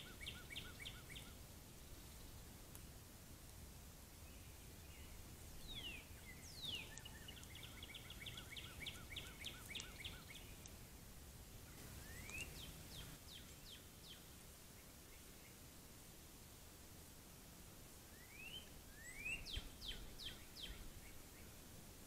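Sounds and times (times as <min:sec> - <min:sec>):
songbird singing: 0:00.0 - 0:03.0, 0:04.1 - 0:15.7, 0:18.1 - 0:21.8
steady low hiss: 0:00.0 - 0:22.0.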